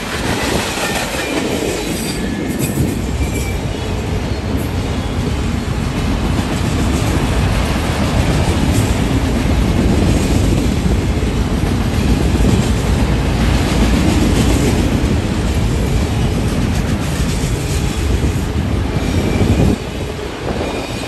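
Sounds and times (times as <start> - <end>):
clickety-clack of train cars: 0.0 - 21.0
train wheels rumbling on rails: 0.0 - 21.0.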